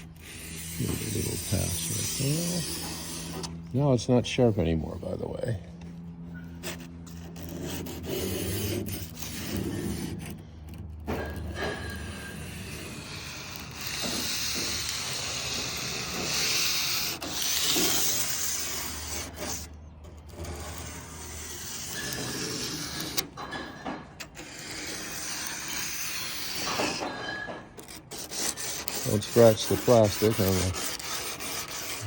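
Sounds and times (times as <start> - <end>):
sanding tape rasping on metal edge: 0.0 - 5.0, 6.6 - 23.3, 24.3 - 27.1, 27.8 - 32.0.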